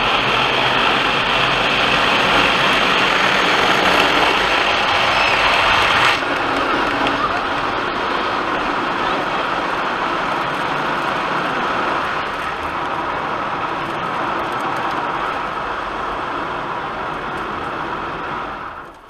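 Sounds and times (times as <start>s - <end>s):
car wash equipment rushing: 0.0s - 19.0s.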